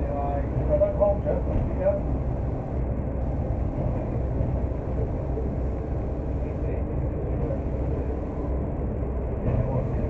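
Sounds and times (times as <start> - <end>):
bus engine rumble: 0.0 - 10.0
road noise: 0.0 - 10.0.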